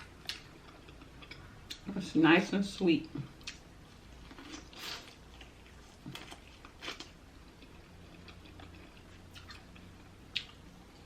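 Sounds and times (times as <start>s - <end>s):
person chewing: 0.0s - 1.8s, 3.3s - 11.0s.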